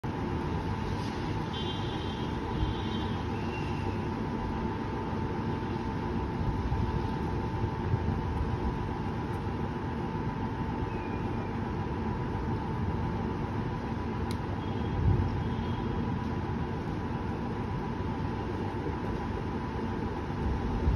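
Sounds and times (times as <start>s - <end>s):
distant city traffic: 0.0s - 20.9s
faint steady hum: 0.1s - 20.9s.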